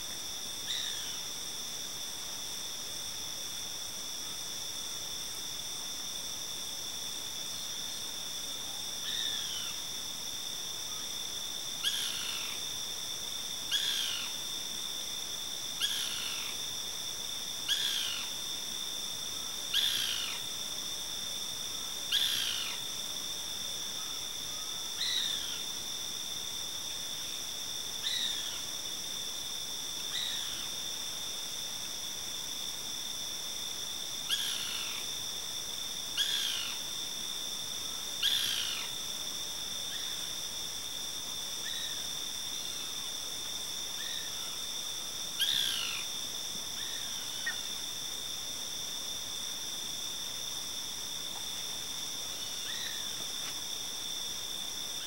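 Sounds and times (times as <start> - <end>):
insects chirping chorus: 0.0 - 55.0.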